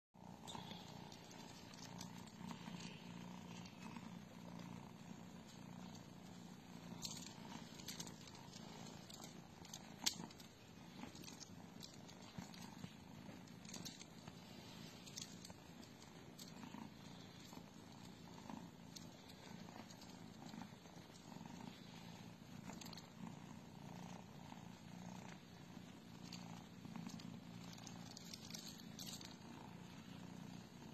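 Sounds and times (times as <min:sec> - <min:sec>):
cat purring: 0:00.2 - 0:30.9.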